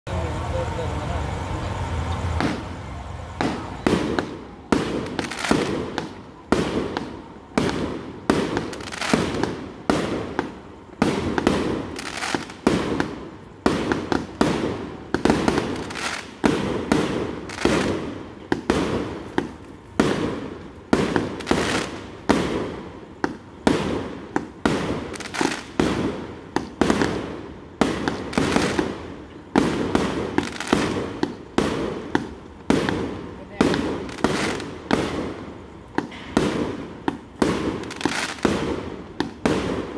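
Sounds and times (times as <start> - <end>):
firework bangs: 0.1 - 39.9.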